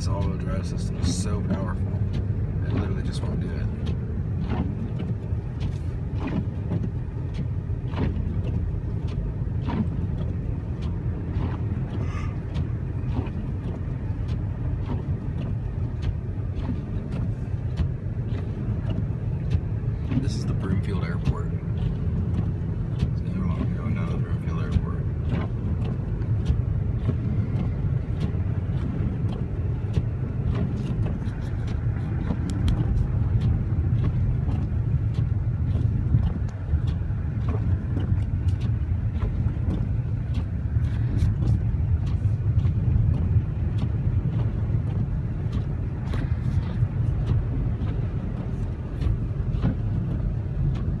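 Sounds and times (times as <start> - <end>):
engine and tyres rumbling: 0.0 - 51.0.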